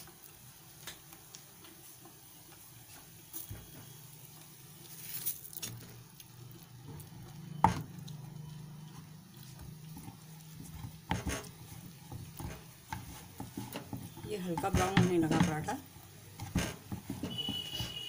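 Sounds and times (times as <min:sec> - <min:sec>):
faint crackle of cooking: 0:00.0 - 0:18.0.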